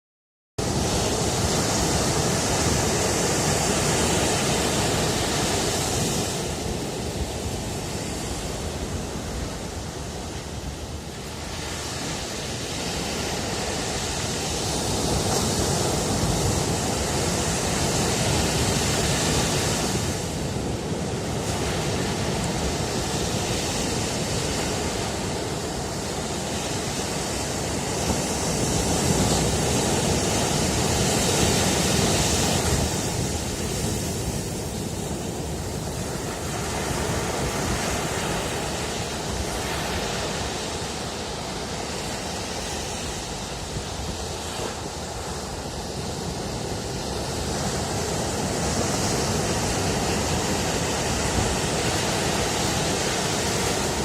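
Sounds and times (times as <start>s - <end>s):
ocean waves breaking on shore: 0.6s - 54.0s.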